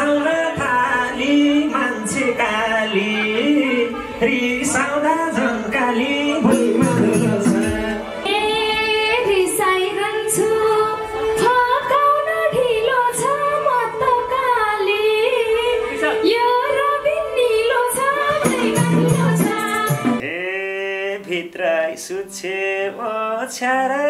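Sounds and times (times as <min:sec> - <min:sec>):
woman singing into a microphone: 0:00.0 - 0:20.2.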